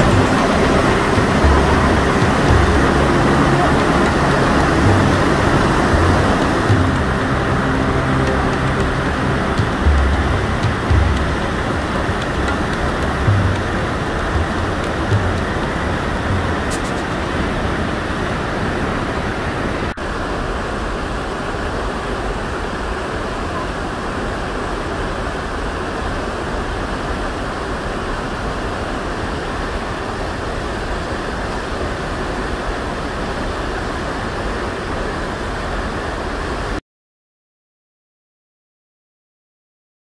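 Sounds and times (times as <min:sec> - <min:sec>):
waterfall roaring: 0:00.0 - 0:36.7.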